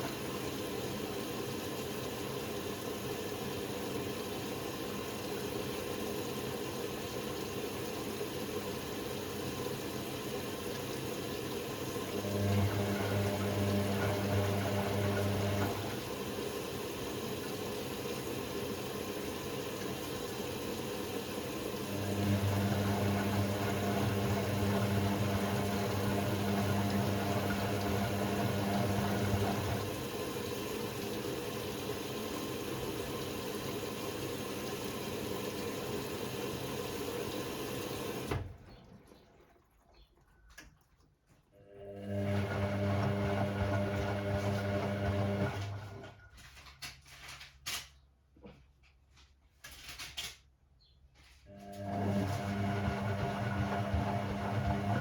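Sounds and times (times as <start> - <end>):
washing machine motor hum: 0.0 - 46.4, 51.5 - 55.0.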